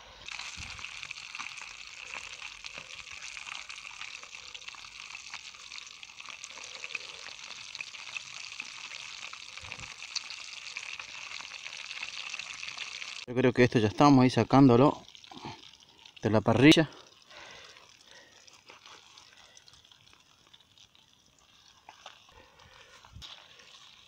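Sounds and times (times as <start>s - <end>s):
fish sizzling in hot oil: 0.0s - 13.3s, 14.9s - 24.0s.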